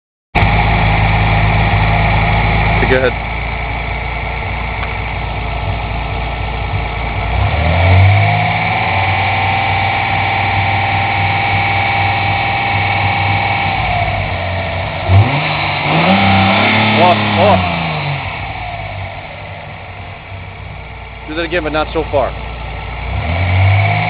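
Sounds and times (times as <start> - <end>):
car engine idling and revving: 0.4 - 24.0.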